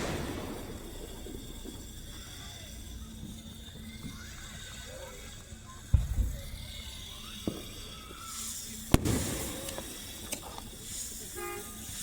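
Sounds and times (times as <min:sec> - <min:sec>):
faint fireworks pops: 0:00.0 - 0:04.2, 0:05.8 - 0:12.0
fireworks bangs: 0:00.0 - 0:04.2, 0:05.9 - 0:11.6.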